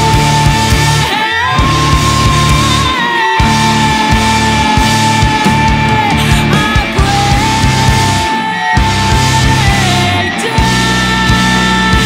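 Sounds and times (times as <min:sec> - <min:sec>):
band song with drum beat: 0:00.0 - 0:12.0.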